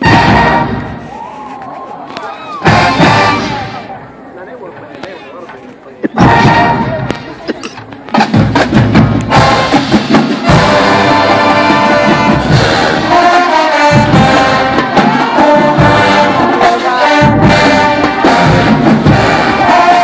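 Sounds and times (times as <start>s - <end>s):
marching band playing: 0.0s - 1.6s, 2.4s - 4.9s, 6.2s - 20.0s.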